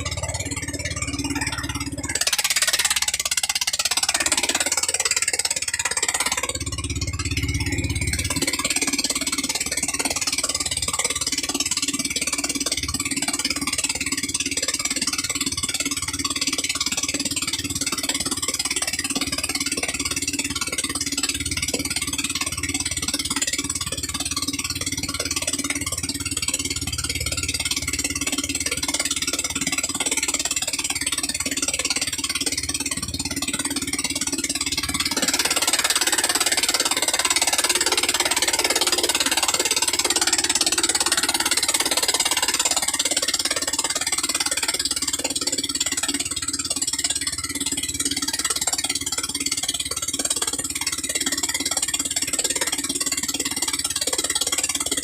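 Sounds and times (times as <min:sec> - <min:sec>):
gasoline engine running steadily: 0:00.0 - 0:55.0.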